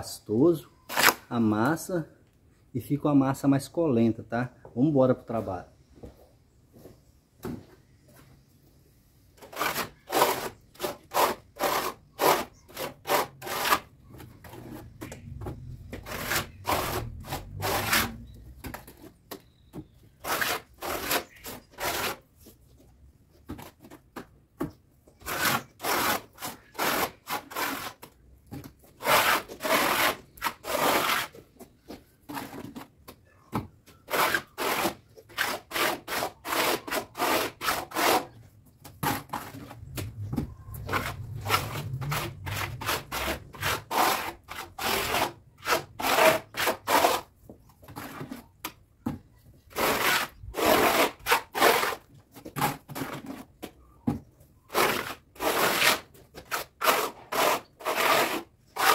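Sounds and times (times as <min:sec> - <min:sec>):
trowel scraping mortar on bricks: 0:00.8 - 0:01.3, 0:09.4 - 0:53.8, 0:54.6 - 0:58.9.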